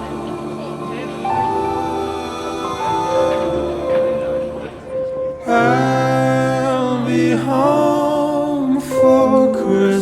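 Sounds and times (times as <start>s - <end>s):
voice singing long bending notes: 0.0s - 10.0s.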